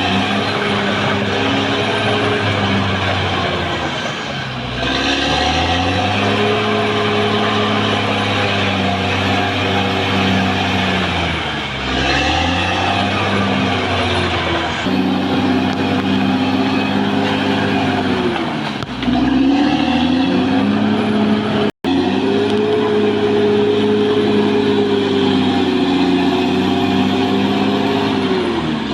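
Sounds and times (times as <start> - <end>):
bulldozer diesel engine under load: 0.0 - 28.9.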